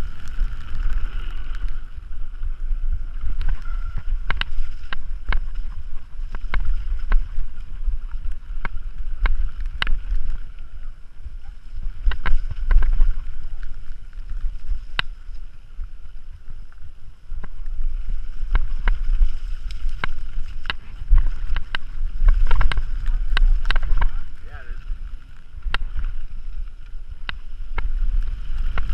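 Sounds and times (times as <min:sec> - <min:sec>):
bike rattling over rocks: 0:00.0 - 0:28.9
wind buffeting microphone: 0:00.0 - 0:28.9.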